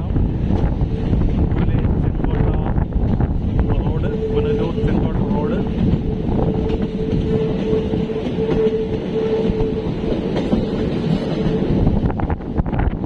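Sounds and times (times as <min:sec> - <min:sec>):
train rumble and wheel clatter: 0:00.0 - 0:13.0
train whine: 0:00.0 - 0:13.0.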